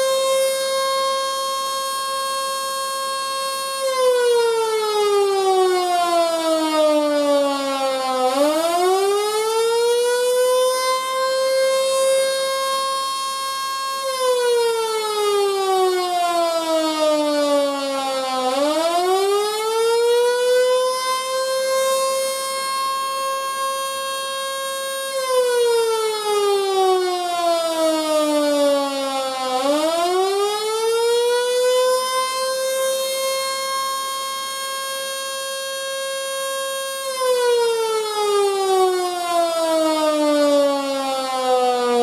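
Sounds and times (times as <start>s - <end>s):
electric siren winding down and up: 0.0s - 42.0s.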